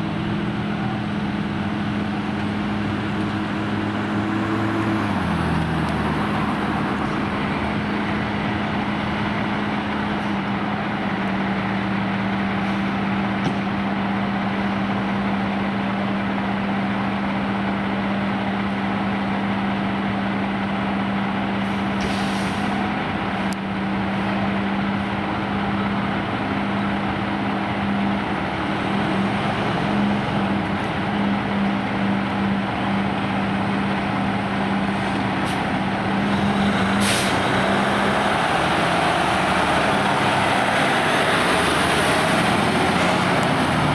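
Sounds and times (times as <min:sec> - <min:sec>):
heavy truck engine running: 0:00.0 - 0:43.9
road noise: 0:00.0 - 0:43.9.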